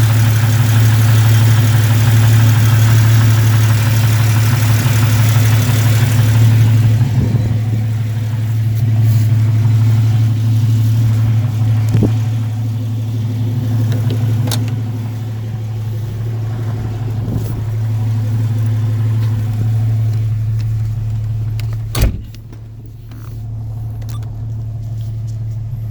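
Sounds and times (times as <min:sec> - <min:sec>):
exhaust leak ticking: 0:00.0 - 0:25.8
car engine idling: 0:00.0 - 0:25.9.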